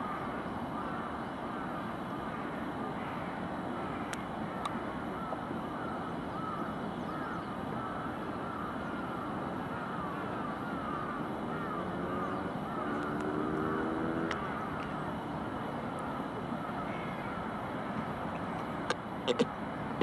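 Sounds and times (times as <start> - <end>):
distant city rumble: 0.0 - 20.0.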